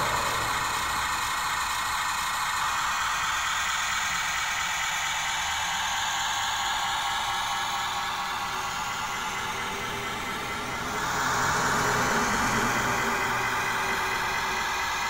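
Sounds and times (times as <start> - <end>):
toy truck motor hiss: 0.0 - 15.0.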